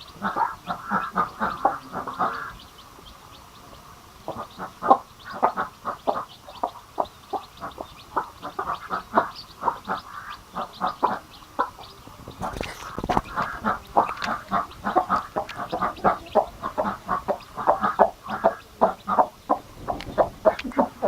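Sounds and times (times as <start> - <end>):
chicks peeping faintly: 0.0 - 21.0
hen clucking: 0.0 - 21.0.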